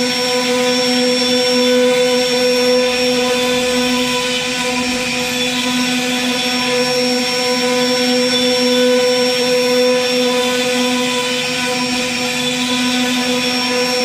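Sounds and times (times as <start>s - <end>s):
router spindle mechanical whine: 0.0s - 14.0s.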